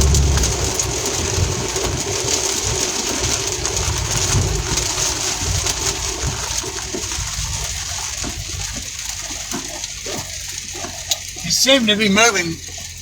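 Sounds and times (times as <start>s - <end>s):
engine humming: 0.0s - 13.0s
heavy rain on vehicle roof: 0.0s - 13.0s.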